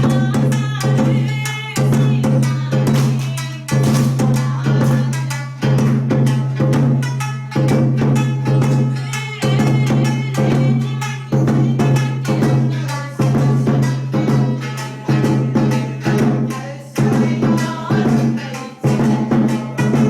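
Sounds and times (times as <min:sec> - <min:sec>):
heavy drum beat: 0:00.0 - 0:20.0.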